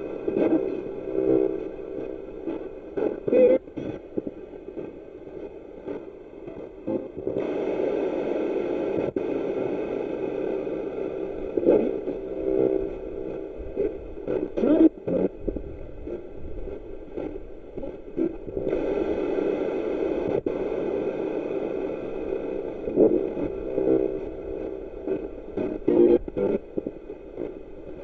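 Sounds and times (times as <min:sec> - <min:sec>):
radio static hiss: 0:00.0 - 0:28.0
snatches of broadcast sound: 0:00.0 - 0:28.0.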